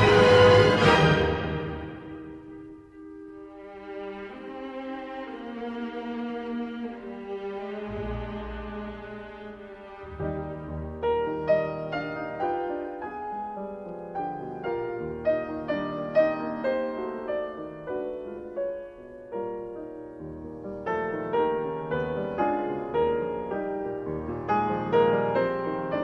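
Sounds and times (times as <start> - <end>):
classical piano music: 0.0 - 26.0.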